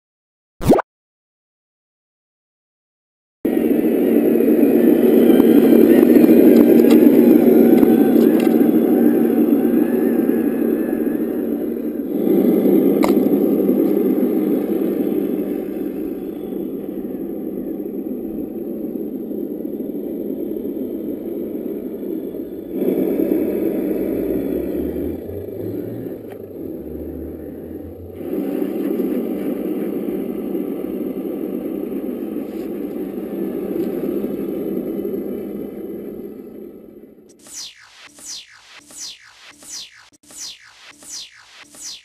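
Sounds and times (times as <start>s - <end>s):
engine revving: 3.5s - 17.4s, 20.8s - 42.0s
simulated diesel engine from speaker: 3.5s - 42.0s.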